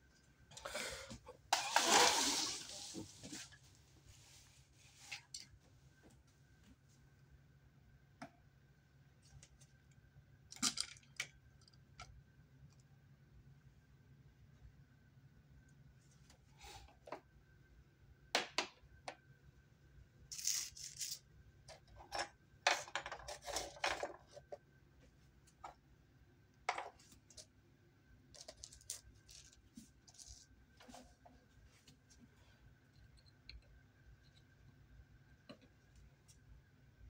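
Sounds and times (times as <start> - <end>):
faint steady whine: 0.0 - 37.0.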